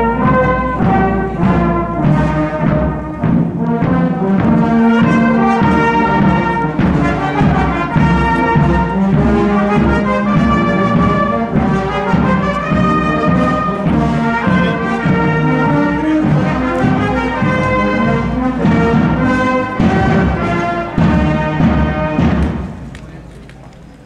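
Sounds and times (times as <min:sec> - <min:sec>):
marching brass band playing: 0:00.0 - 0:23.2.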